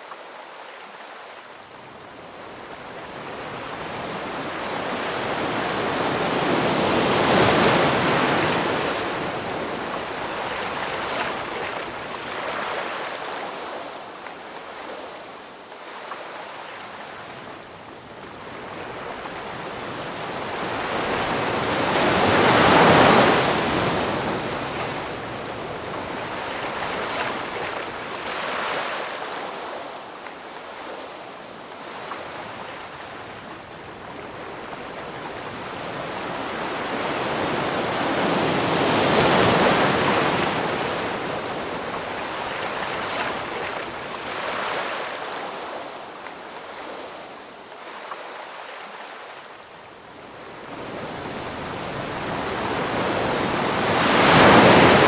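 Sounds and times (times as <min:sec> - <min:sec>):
ocean waves breaking: 0:02.8 - 0:14.0, 0:18.3 - 0:47.2, 0:50.4 - 0:55.0.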